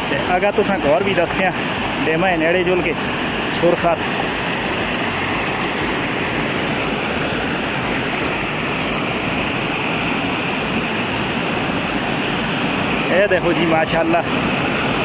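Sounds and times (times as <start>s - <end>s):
waterfall rushing into stream: 0.0s - 15.0s.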